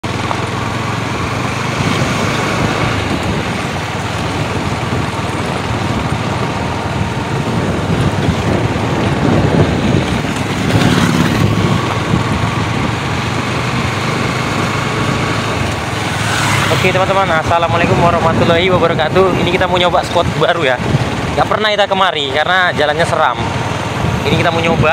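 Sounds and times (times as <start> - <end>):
motorbike engine and road noise: 0.0 - 24.9
motorbikes passing: 0.0 - 24.9.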